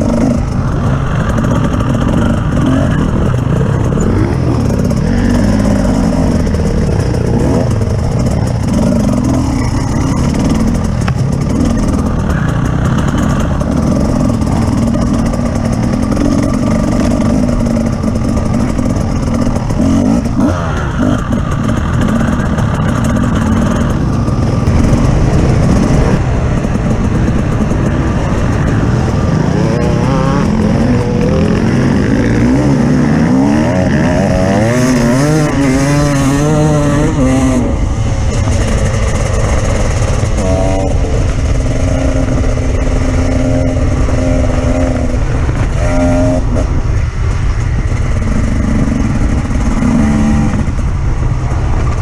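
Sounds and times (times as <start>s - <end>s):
off-road vehicle engine revving: 0.0s - 52.0s.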